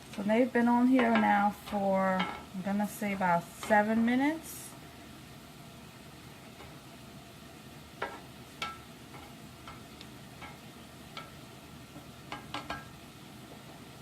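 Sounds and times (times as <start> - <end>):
squid sizzling on grill: 0.0 - 14.0.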